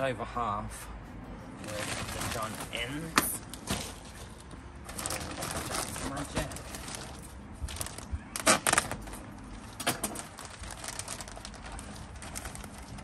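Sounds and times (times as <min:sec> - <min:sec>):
compost crackling and rustling: 0:01.6 - 0:13.0.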